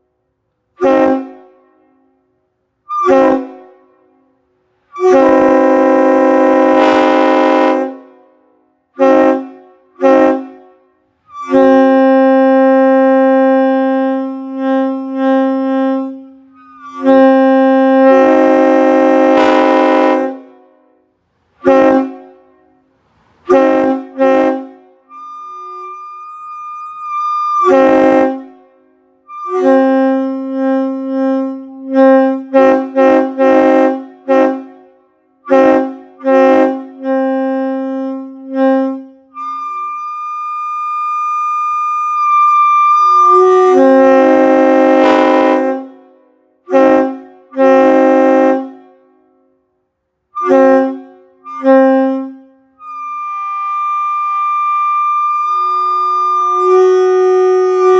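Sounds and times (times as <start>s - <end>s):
train horn blasts: 0.7s - 57.9s
single higher horn tone: 0.8s - 49.6s, 50.3s - 57.9s.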